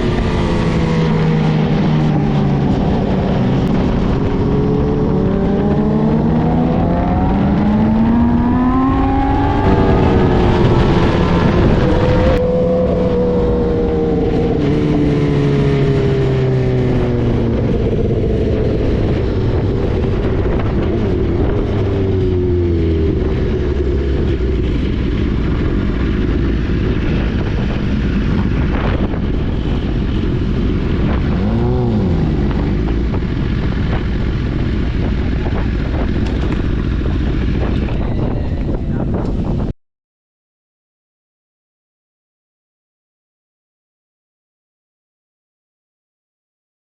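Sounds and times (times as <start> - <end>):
motorcycle engine revving: 0.0 - 39.7
wind rush: 0.0 - 39.8.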